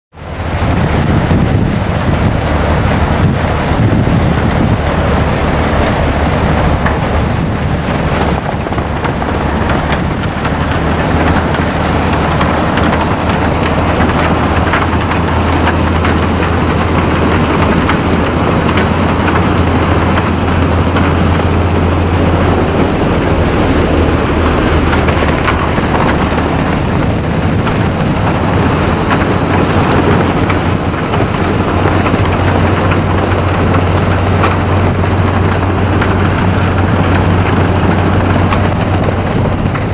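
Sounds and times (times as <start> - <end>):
train low drone: 0.1 - 39.9.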